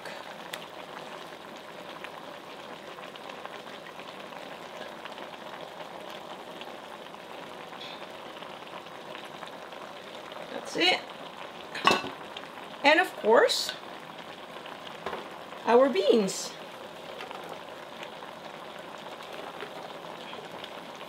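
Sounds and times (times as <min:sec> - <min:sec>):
food bubbling and sizzling: 0:00.0 - 0:21.0.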